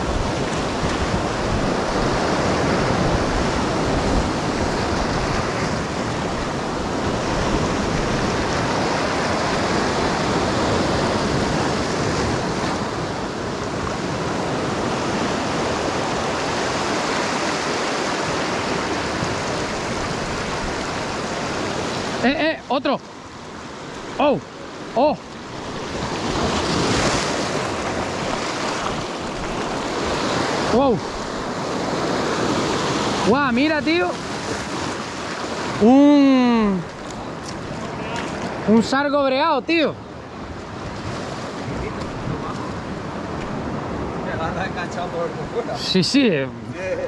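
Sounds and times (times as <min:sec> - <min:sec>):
surf washing over rocks: 0:00.0 - 0:47.0.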